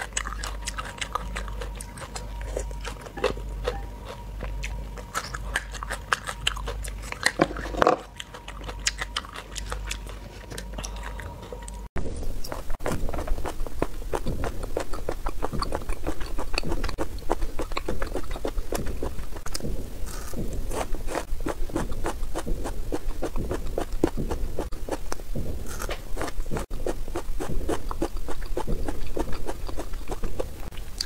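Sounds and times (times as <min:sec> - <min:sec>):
chewing and crunching: 0:00.0 - 0:31.0.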